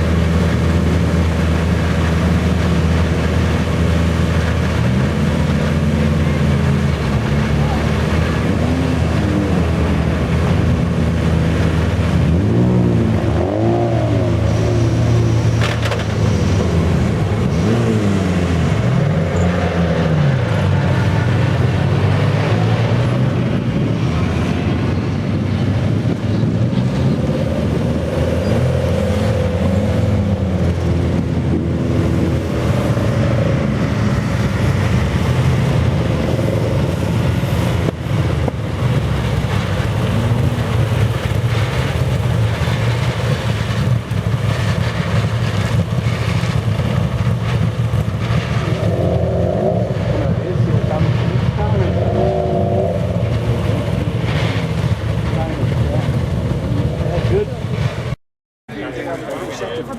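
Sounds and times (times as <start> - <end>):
low engine drone: 0.0 - 59.9
racing cars passing by: 0.0 - 59.9.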